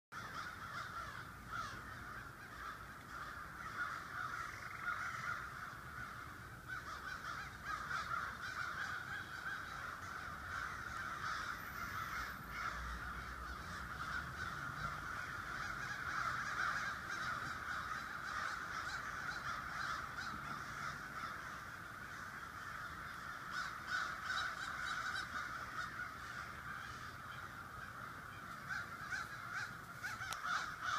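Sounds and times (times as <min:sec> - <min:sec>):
crows cawing: 0:00.1 - 0:30.9.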